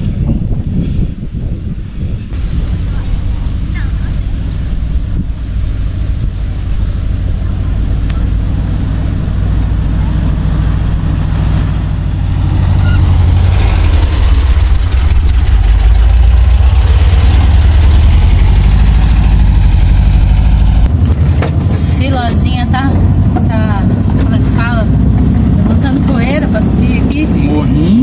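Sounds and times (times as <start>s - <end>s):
van engine running: 1.0s - 28.0s.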